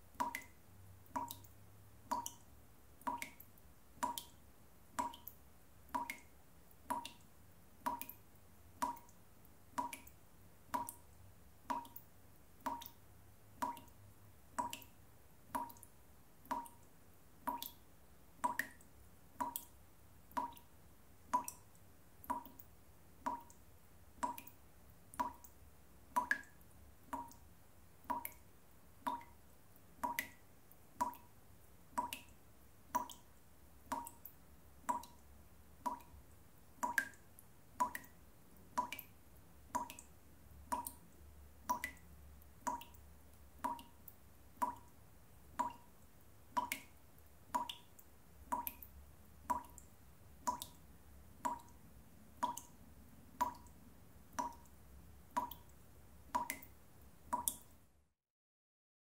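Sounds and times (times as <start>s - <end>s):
water dripping into a basin: 0.0s - 57.9s.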